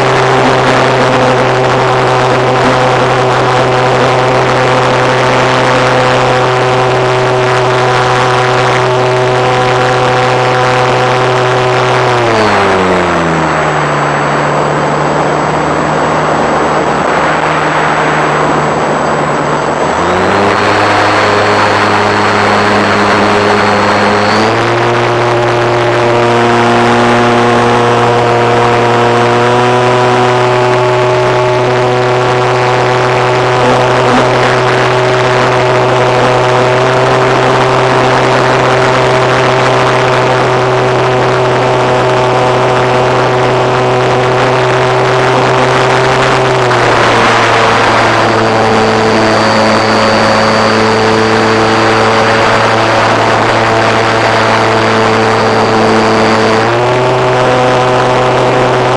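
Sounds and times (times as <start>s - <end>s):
model airplane engine buzzing: 0.0s - 58.9s.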